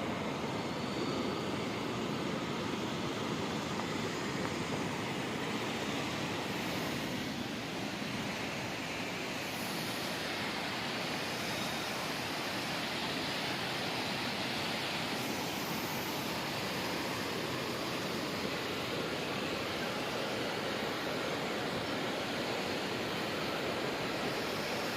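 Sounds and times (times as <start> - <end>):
water rushing: 0.0 - 24.9.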